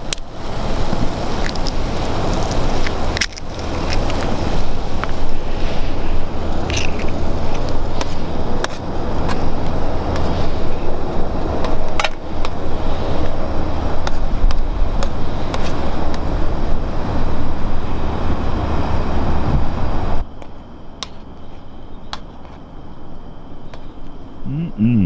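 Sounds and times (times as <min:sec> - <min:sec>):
gas stove roaring: 0:00.0 - 0:20.2.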